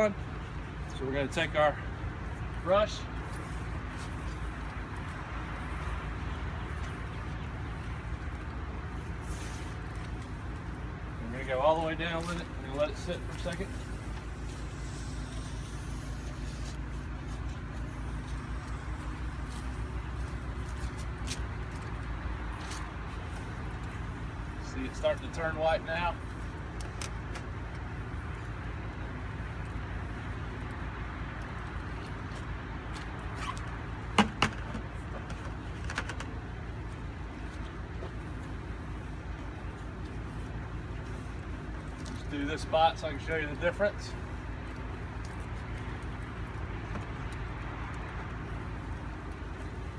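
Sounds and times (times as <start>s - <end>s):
engine humming: 0.0s - 49.9s.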